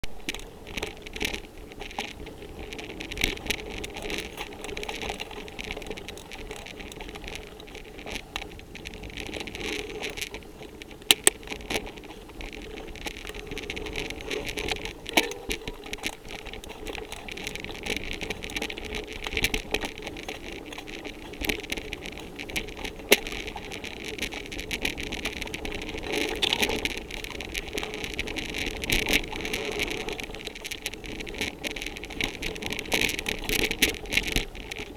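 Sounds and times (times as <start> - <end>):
rumble and rattle of bike ride: 0.0 - 34.9.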